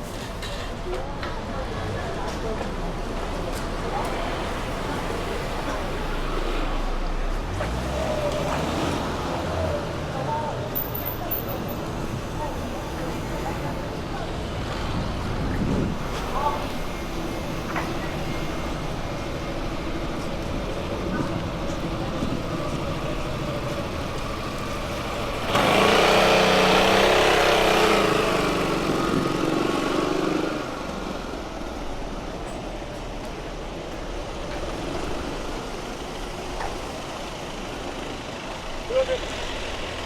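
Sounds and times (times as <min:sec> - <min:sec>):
street ambience: 0:00.0 - 0:40.0.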